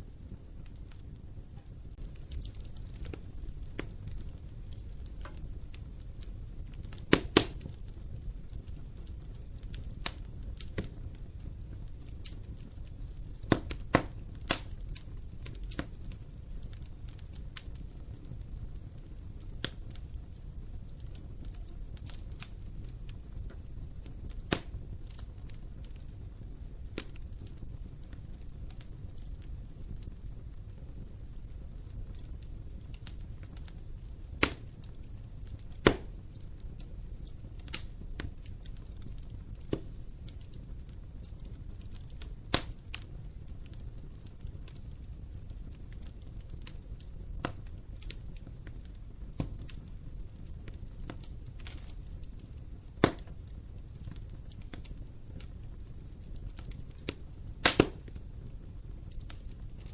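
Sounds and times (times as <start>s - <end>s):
fire crackling and popping: 0.0s - 59.9s
wood fire rumbling: 0.0s - 59.9s.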